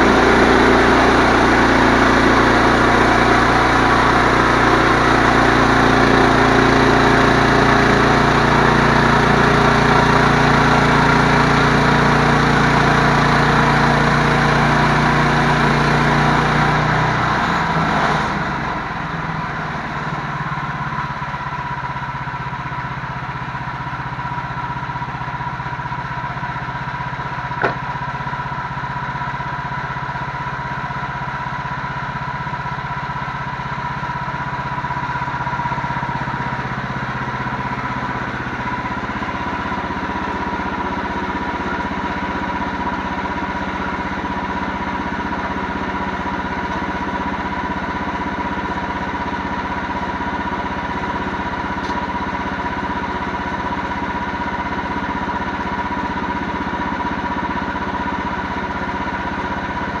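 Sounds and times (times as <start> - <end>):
engine running: 0.0 - 60.0.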